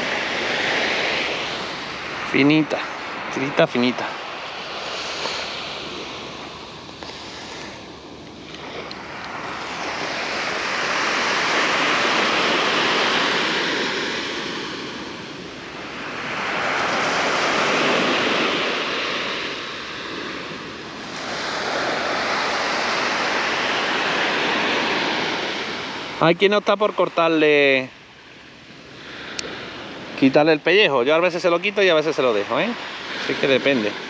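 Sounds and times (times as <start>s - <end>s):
sea surf washing onto beach: 0.0s - 34.0s.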